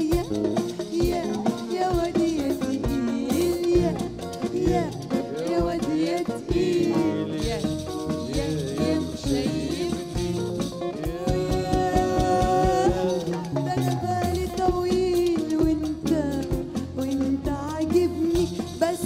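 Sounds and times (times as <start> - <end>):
live band with keyboard: 0.0 - 19.0
woman singing: 0.0 - 19.0.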